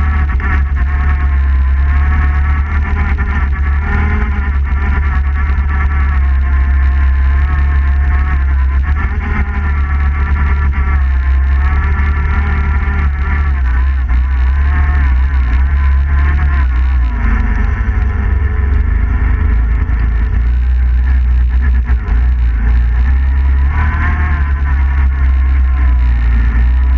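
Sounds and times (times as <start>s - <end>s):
atv engine running under load: 0.0s - 26.9s
constant low rumble: 0.0s - 26.9s.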